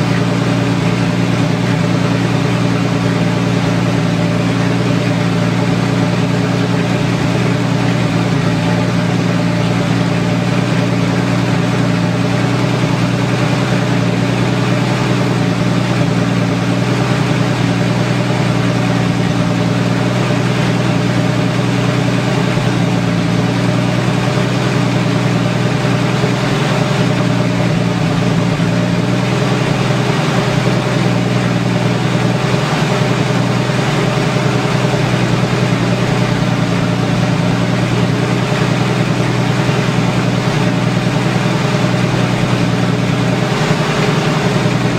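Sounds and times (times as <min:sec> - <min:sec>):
straight-piped engine idling: 0:00.0 - 0:44.9.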